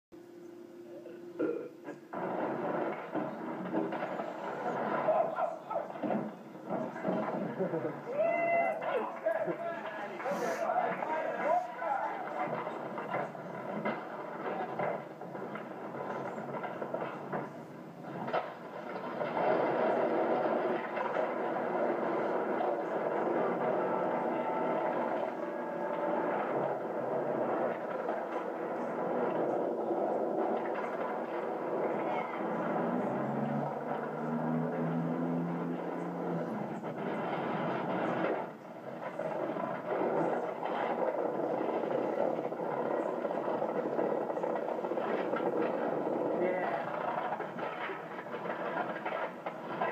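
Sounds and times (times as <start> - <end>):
skateboard wheels rolling on concrete: 2.0 - 49.9.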